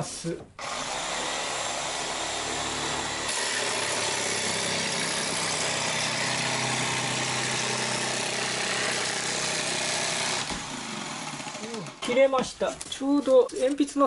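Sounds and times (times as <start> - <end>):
jigsaw sawing plywood: 0.6 - 12.2.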